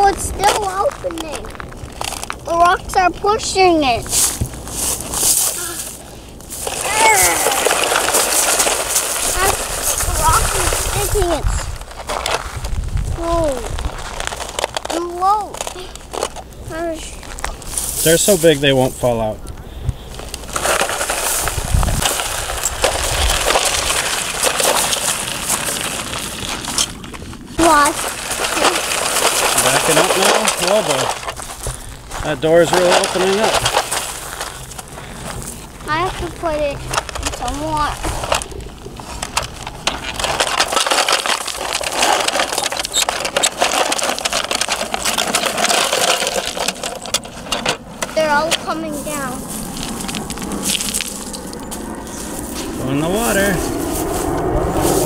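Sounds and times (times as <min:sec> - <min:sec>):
rocks rattling on plastic: 0:00.0 - 0:52.0.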